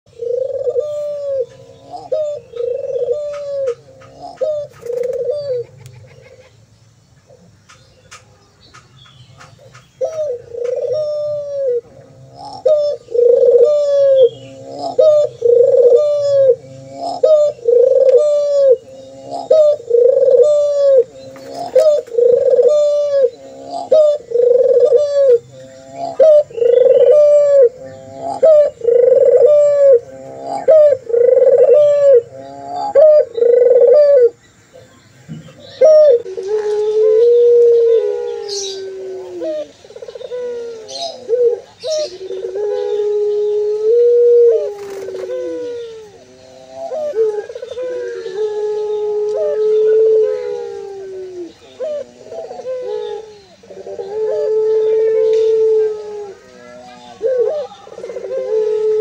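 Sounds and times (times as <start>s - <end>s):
dove cooing: 0.1s - 6.7s, 9.3s - 59.0s.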